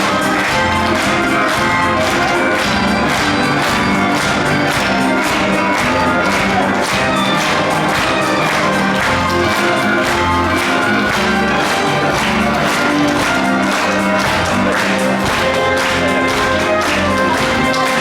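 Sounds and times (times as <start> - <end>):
orchestra playing upbeat music: 0.0 - 18.0.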